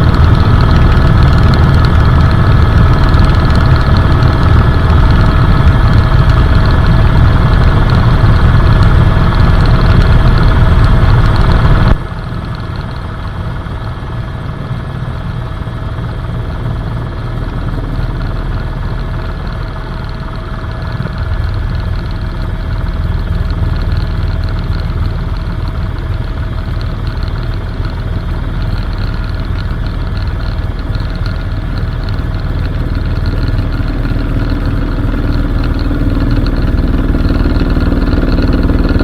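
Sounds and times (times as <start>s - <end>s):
helicopter rotor and turbine drone: 0.0s - 39.0s.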